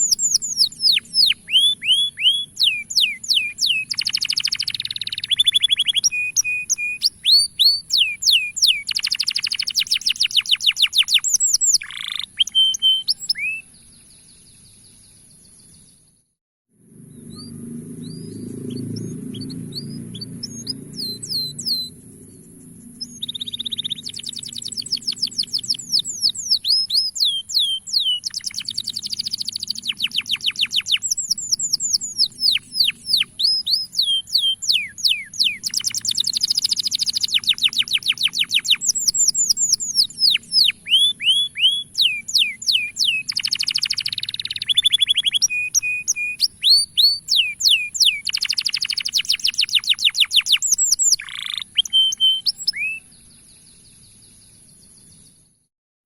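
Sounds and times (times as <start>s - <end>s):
canary singing: 0.0s - 14.0s, 17.2s - 53.4s.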